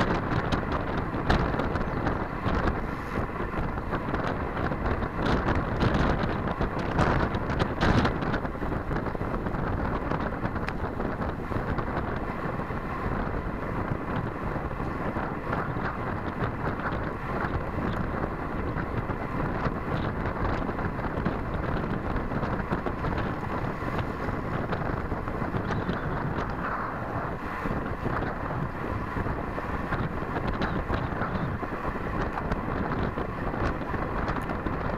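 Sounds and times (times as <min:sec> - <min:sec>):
wind rushing over microphone: 0:00.0 - 0:34.9.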